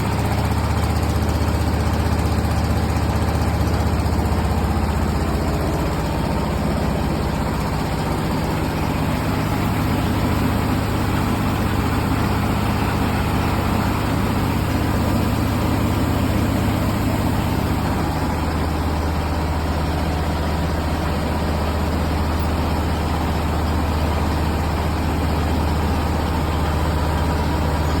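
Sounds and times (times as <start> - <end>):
diesel engine drone: 0.0 - 28.0
milling machinery noise: 0.0 - 28.0.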